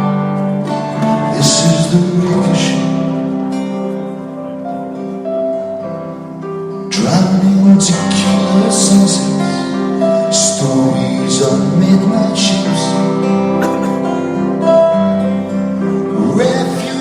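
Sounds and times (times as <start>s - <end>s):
live rock band instrumental: 0.0s - 17.0s.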